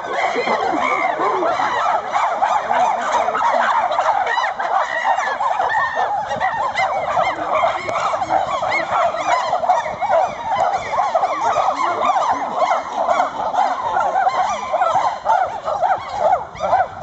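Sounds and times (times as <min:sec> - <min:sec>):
chimpanzees calling: 0:00.0 - 0:17.0.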